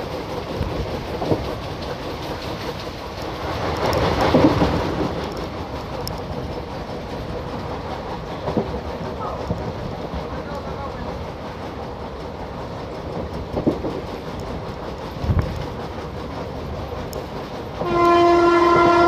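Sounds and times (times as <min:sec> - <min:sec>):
rail-joint clicks: 0:00.0 - 0:19.0
train rumbling on track: 0:00.0 - 0:19.0.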